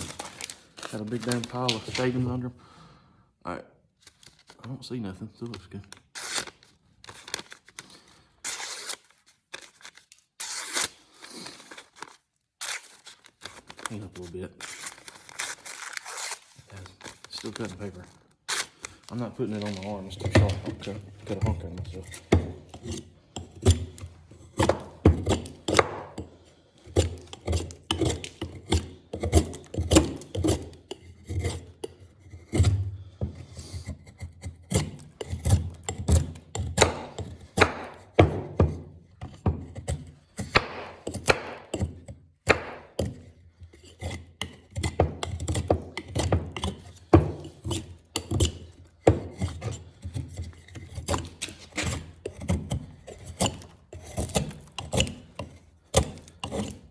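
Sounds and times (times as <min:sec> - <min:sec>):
knife shaving wood: 0:00.0 - 0:02.3, 0:06.1 - 0:56.9.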